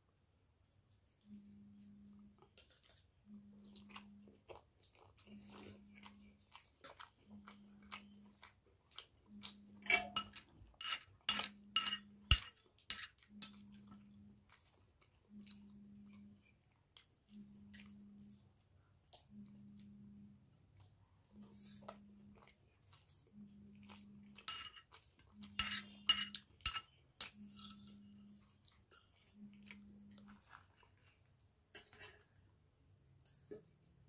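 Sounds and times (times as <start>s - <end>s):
chewing and biting food: 2.2s - 11.3s, 12.0s - 27.5s, 28.2s - 31.4s.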